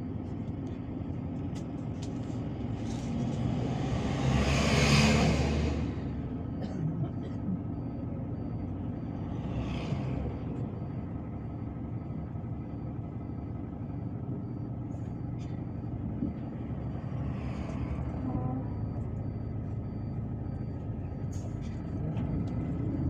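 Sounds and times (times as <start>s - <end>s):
bus diesel engine rumble: 0.0s - 23.0s.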